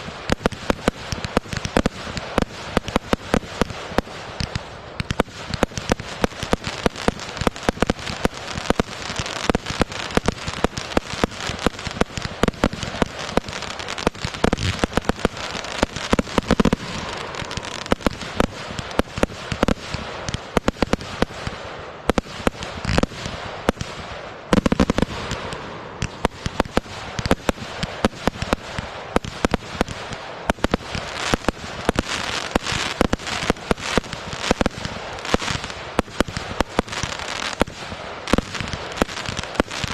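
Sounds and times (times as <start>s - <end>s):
deep fireworks booms: 0.0s - 39.9s
fireworks crackling: 0.0s - 39.9s
fireworks sharp bangs: 0.0s - 39.9s.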